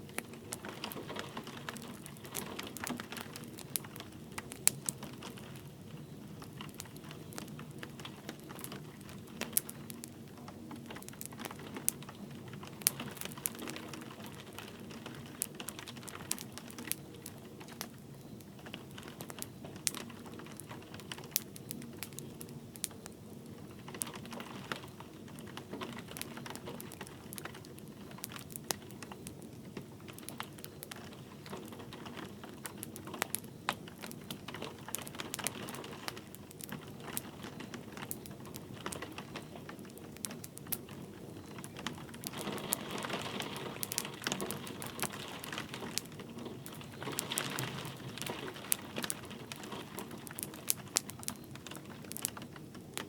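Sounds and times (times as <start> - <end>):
light rain: 0.0 - 53.0
wood fire crackling: 0.0 - 53.0.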